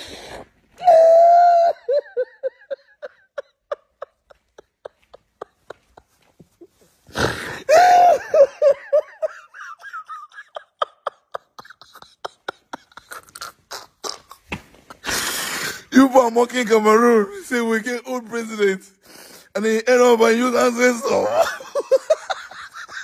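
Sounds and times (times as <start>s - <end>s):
man wailing and sobbing: 0.8s - 16.3s, 19.6s - 23.0s.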